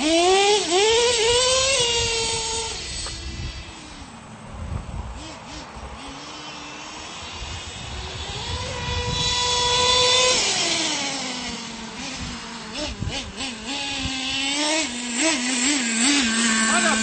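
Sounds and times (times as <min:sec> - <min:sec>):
toy truck motor whining: 0:00.0 - 0:04.2, 0:05.2 - 0:17.0.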